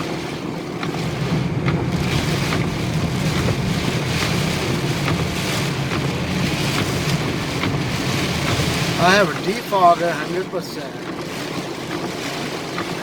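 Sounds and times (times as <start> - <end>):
heavy rain on a car: 0.0 - 13.0
water wash under car: 0.0 - 13.0
windshield wipers on high speed: 0.0 - 13.0.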